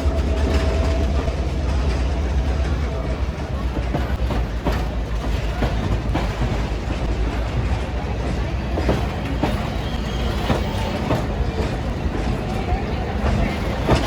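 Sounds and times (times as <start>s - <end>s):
train rumbling on track: 0.0s - 14.0s
wheels clicking over rail joints: 0.0s - 14.0s.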